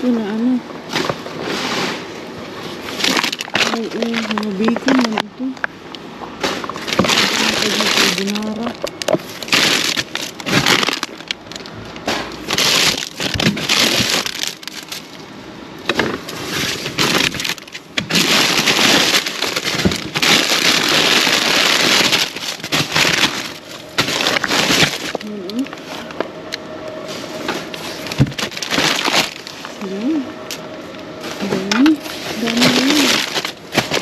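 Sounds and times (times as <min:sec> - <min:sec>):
plastic bags rustling: 0:00.0 - 0:34.0.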